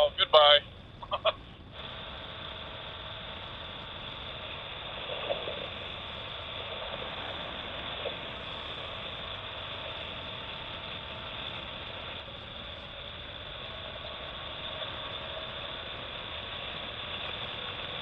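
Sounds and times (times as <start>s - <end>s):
wind and road noise: 0.0s - 18.0s
motorcycle engine running: 1.6s - 18.0s.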